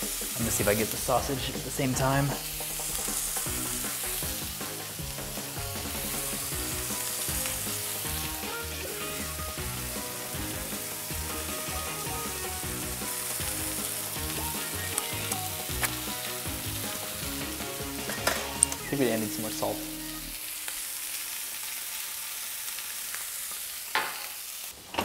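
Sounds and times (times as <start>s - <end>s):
background music: 0.0s - 20.4s
meat sizzling in skillet: 0.0s - 24.9s.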